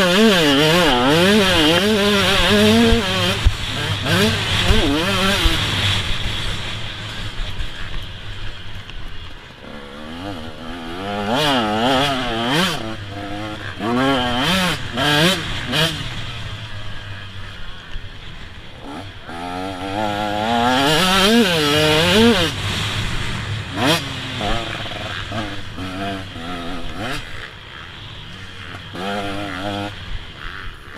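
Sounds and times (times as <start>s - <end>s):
motocross bike engine revving: 0.0s - 30.9s.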